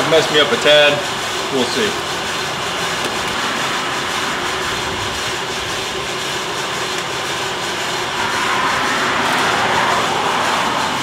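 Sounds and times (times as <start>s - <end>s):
coffee roaster running: 0.0s - 11.0s.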